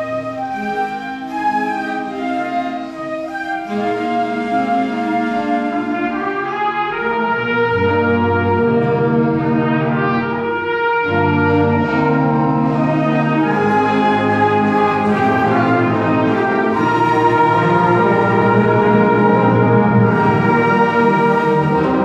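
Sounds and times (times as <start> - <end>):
brass ensemble playing chords: 0.0 - 22.0.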